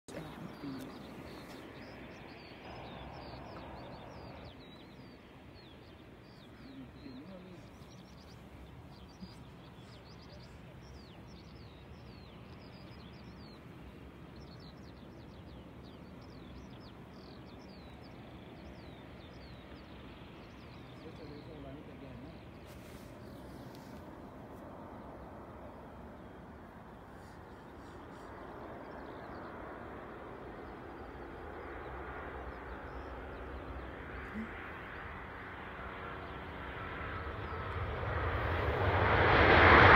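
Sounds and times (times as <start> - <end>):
small birds chirping: 0.0 - 38.8.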